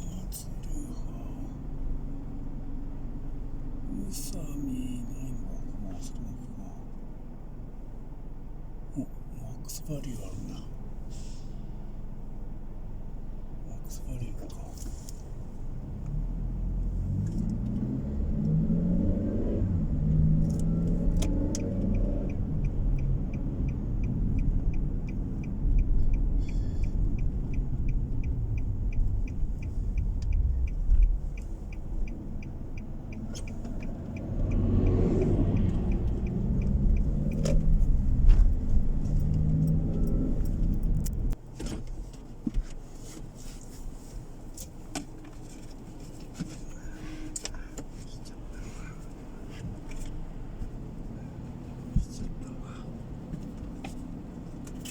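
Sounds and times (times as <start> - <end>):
car engine from inside cabin: 0.0 - 54.9
turn signal ticking: 0.0 - 54.9.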